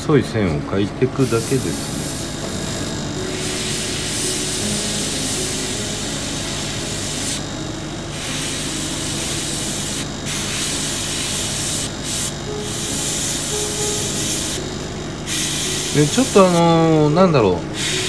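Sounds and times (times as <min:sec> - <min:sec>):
airbrush air hiss: 0:01.1 - 0:18.0.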